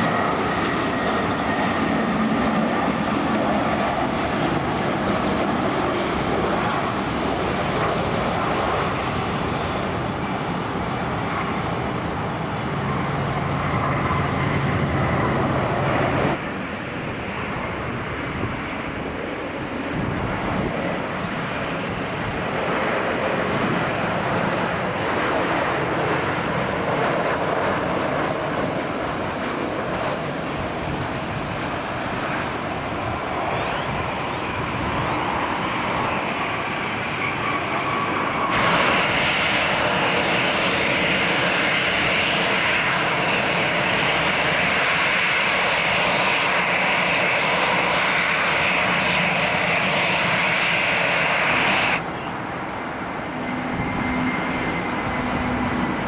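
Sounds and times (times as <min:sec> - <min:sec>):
airplane engines rushing: 0:00.0 - 0:56.0.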